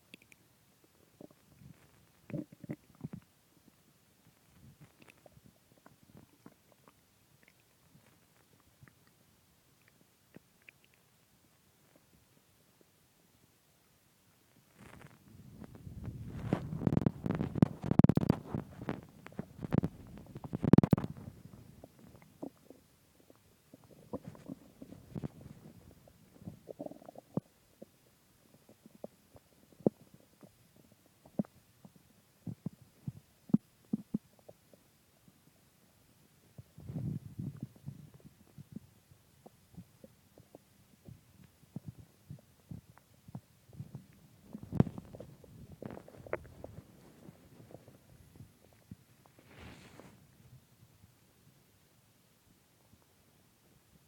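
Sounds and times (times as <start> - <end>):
stomach growling and gurgling: 0.0 - 12.9, 14.5 - 51.2.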